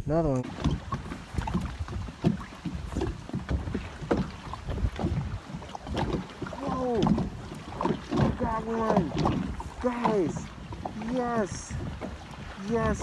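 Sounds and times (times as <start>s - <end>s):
wind rumbling on microphone: 0.4s - 13.0s.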